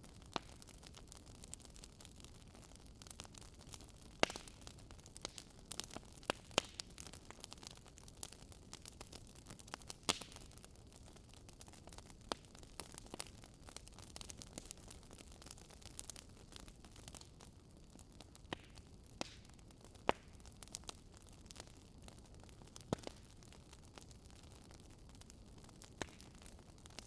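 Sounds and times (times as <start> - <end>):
burning wood popping: 0.1 - 27.0.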